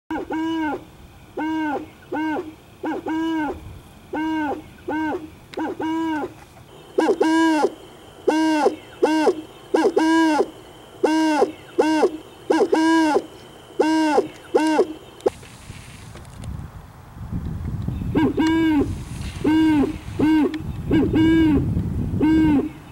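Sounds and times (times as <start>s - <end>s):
owl hooting: 0.1s - 15.4s, 18.1s - 22.9s.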